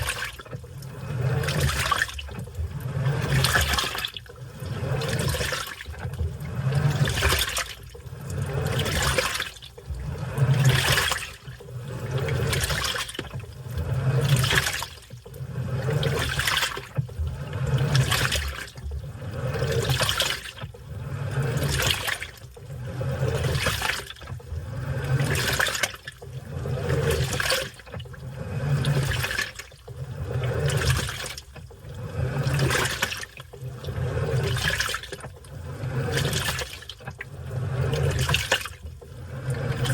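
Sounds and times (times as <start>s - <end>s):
washing machine sloshing water: 0.0s - 39.9s.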